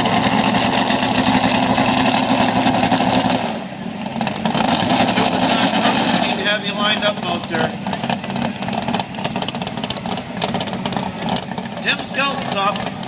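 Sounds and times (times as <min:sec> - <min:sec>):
truck engine revving under load: 0:00.0 - 0:13.0.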